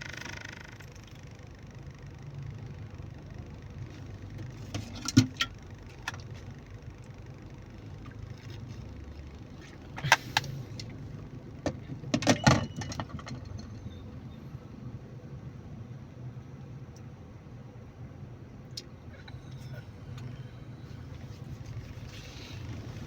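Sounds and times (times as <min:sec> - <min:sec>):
car cabin rumble: 0:00.0 - 0:15.4, 0:18.8 - 0:23.0.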